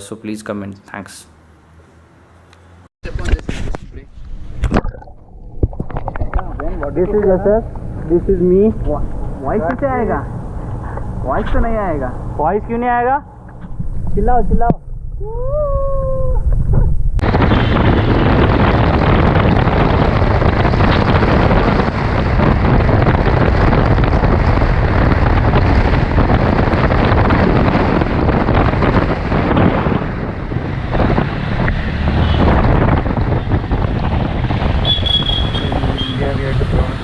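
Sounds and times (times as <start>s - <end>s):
road noise: 0.0s - 4.7s, 5.4s - 15.2s, 16.5s - 37.0s
wind buffeting microphone: 3.1s - 37.0s.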